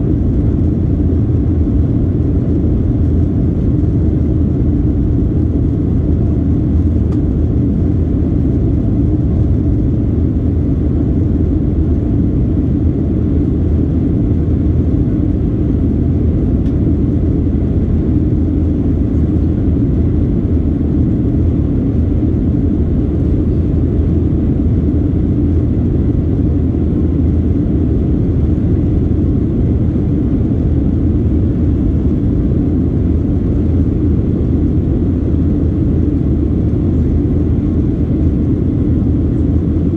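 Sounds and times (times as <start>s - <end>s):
airliner engines rumbling in flight: 0.0s - 39.9s.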